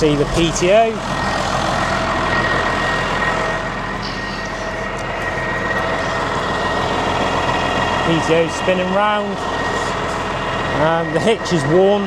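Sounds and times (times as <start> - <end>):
thin high whine: 0.0 - 11.9
diesel tractor engine running: 0.0 - 12.0.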